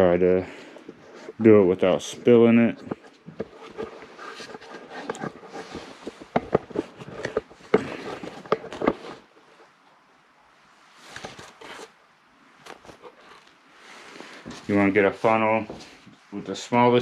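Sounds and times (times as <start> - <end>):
rustling: 0.0 - 9.8, 10.7 - 17.0.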